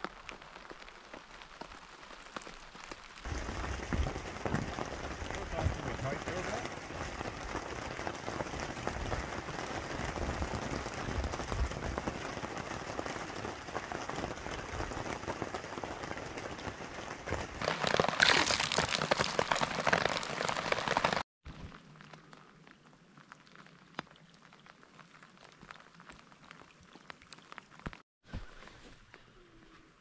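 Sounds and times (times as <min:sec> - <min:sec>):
raindrops hitting close by: 0:00.0 - 0:28.0
steady rain falling: 0:00.0 - 0:28.0.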